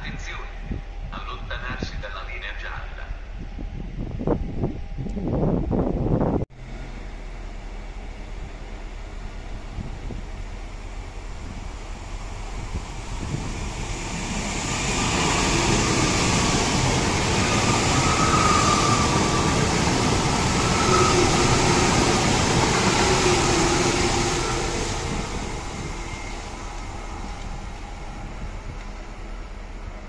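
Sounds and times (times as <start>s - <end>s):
high-speed train rushing past: 0.0s - 30.0s.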